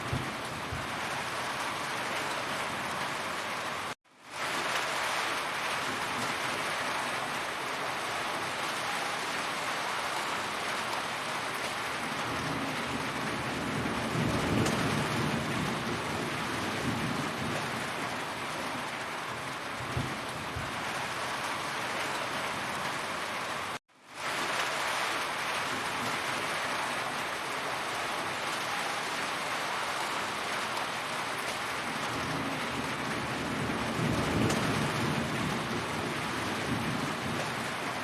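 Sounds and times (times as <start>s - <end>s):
heavy rain falling: 0.0s - 38.0s.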